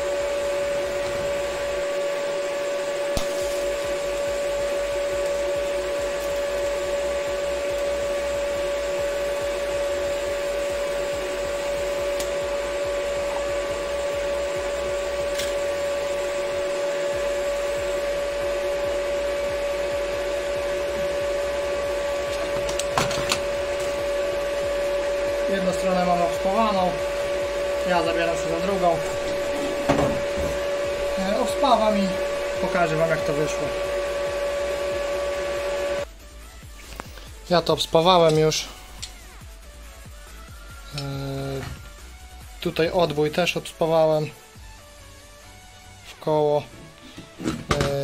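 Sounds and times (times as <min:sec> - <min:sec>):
welding set humming: 0:00.0 - 0:48.0.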